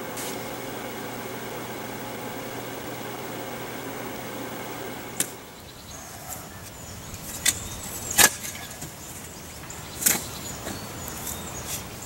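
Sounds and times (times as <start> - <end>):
small tractor engine hum: 0.0 - 12.0.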